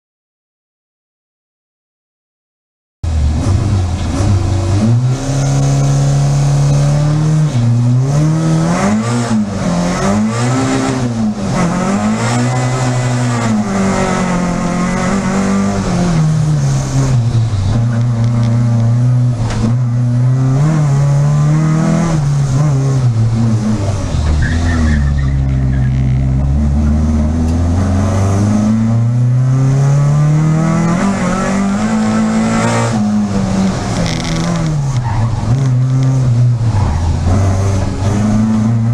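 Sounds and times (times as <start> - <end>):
rally car engine revving: 3.1 - 38.9.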